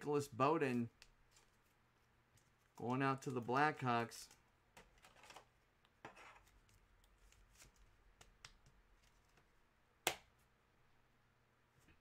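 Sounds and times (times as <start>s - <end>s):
cards rustling and tapping: 0.5s - 10.3s.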